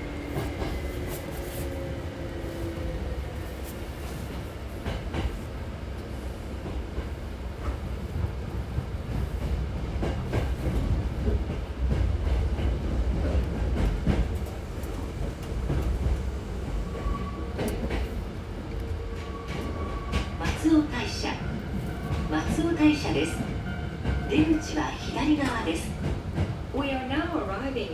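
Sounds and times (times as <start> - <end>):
train rumble: 0.0 - 27.9.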